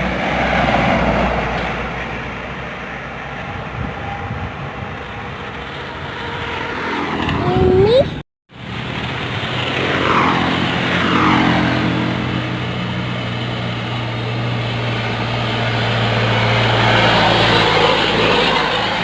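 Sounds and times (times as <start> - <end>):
truck engine droning: 0.0 - 19.0
vehicle passing: 3.8 - 19.0.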